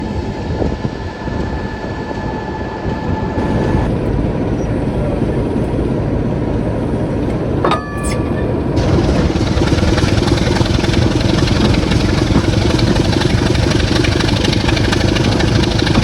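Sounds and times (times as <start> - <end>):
diesel locomotive engine rumbling: 0.0 - 16.0
faint high whine: 0.0 - 16.0.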